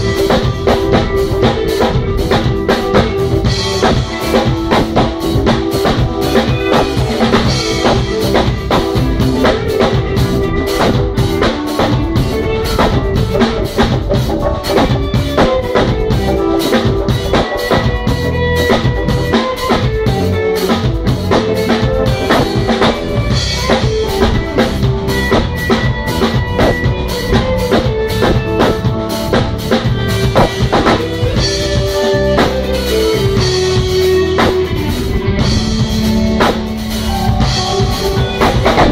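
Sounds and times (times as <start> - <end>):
drum kit beat: 0.0 - 38.9
guitar: 0.0 - 38.9
keyboards playing chords and bass: 0.0 - 38.9
percussion: 0.0 - 38.9.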